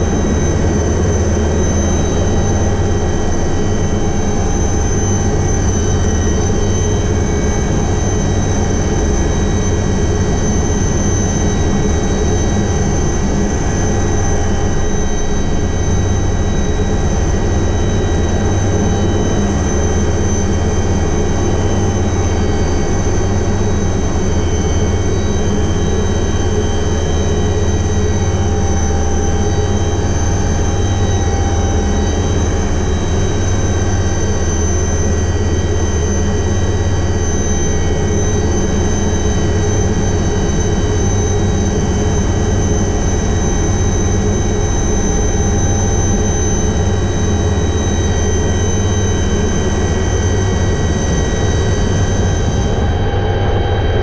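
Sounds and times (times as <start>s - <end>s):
helicopter turbine whine: 0.0s - 54.0s
low rotor drone: 0.0s - 54.0s.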